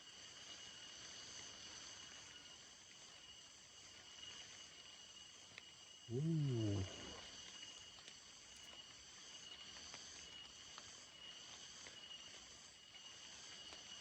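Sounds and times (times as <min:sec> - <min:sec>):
insect chorus: 0:00.0 - 0:14.0.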